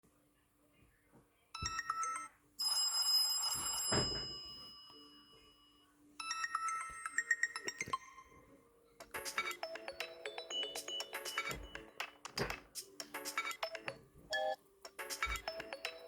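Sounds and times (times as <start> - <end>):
electronic phone ringtones: 1.6 - 16.0.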